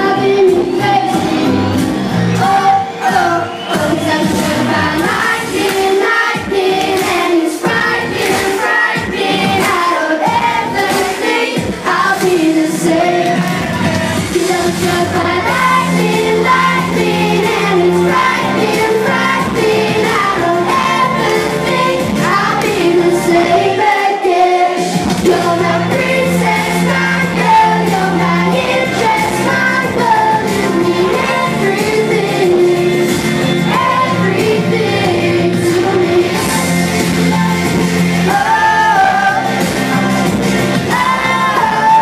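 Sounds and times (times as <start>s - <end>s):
backing music with bass line: 0.0s - 42.0s.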